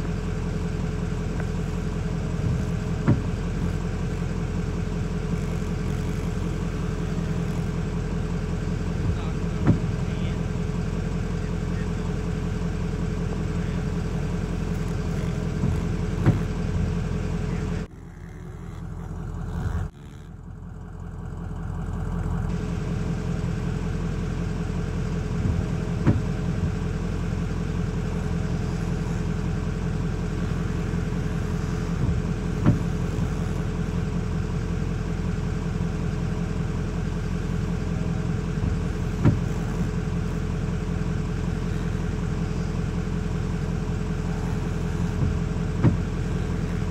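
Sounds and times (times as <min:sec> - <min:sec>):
pit bike engines droning: 0:00.0 - 0:46.9.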